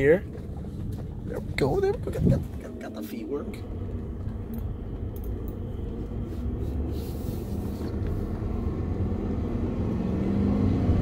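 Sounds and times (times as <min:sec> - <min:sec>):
car engine pulling away: 0:00.0 - 0:11.0
road rumble: 0:00.0 - 0:11.0.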